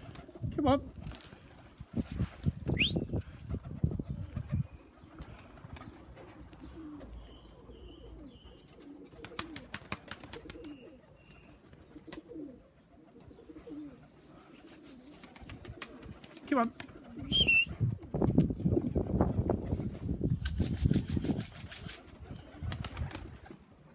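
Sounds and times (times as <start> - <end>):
pigeons cooing: 2.7 - 19.5, 21.1 - 23.8.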